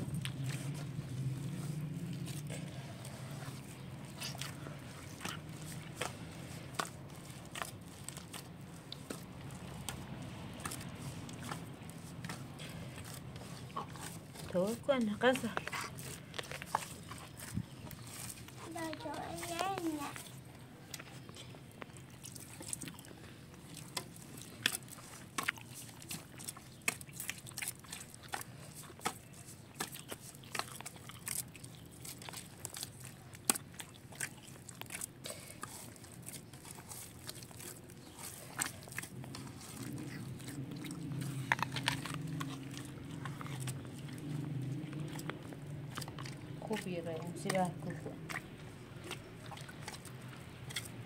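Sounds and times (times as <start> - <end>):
child chewing an apple: 0.0 - 51.0
dough squishing while kneaded: 0.0 - 51.0.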